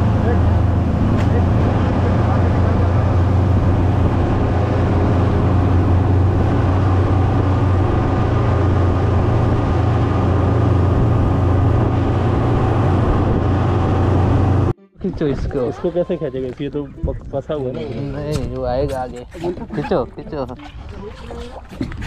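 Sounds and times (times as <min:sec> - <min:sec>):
motorboat engine drone: 0:00.0 - 0:22.0
wind and water rushing: 0:00.0 - 0:22.0.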